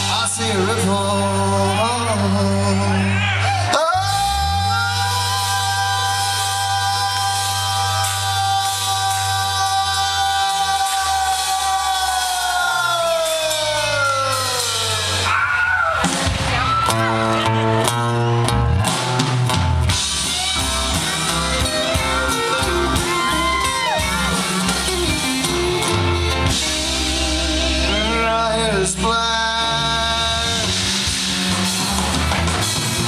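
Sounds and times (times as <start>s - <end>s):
country band playing: 0.0s - 33.0s
drum kit: 3.9s - 33.0s.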